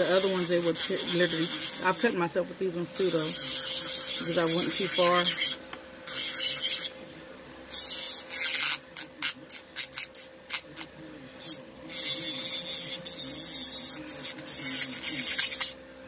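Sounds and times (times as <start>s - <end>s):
nail drill grinding: 0.0s - 2.2s, 2.9s - 7.0s, 7.7s - 10.6s, 11.4s - 15.8s.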